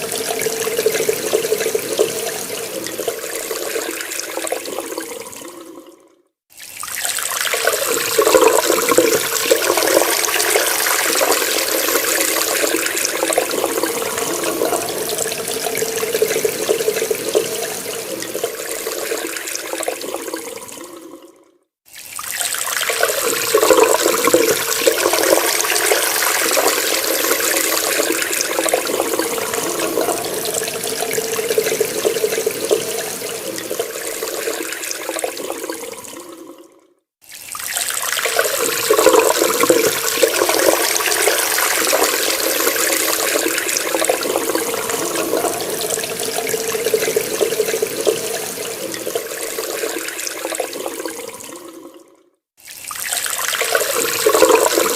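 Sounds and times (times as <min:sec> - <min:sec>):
water running from a tap: 0:00.0 - 0:05.6, 0:06.5 - 0:21.1, 0:21.9 - 0:36.5, 0:37.2 - 0:52.0, 0:52.6 - 0:54.9.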